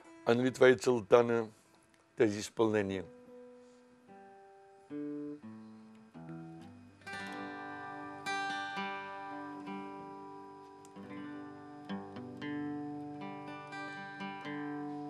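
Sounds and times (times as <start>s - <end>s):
acoustic guitar: 0.0s - 2.2s, 3.1s - 15.0s.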